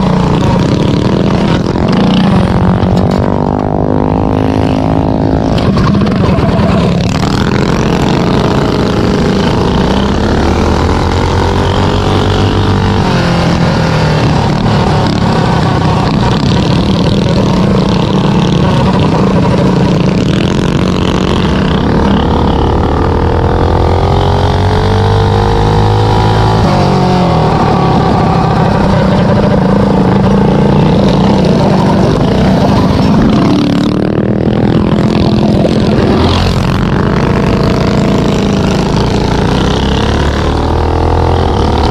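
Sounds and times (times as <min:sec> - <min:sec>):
minibike engines revving: 0:00.0 - 0:41.9.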